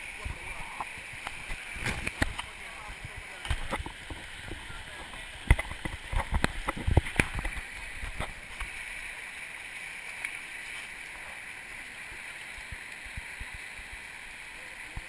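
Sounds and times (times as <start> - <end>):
river rushing over boulders: 0.0 - 15.0.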